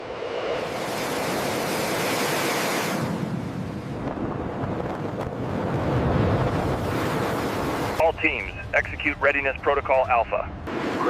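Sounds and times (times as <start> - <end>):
fighter jet engine roar: 0.0 - 11.0.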